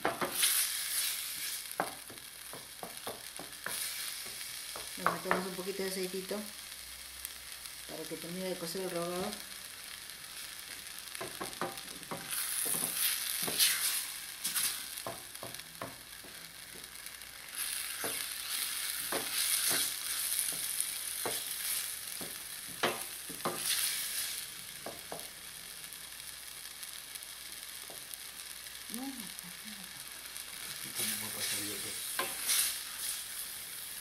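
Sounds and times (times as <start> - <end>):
onion sizzling in oil: 0.0 - 34.0.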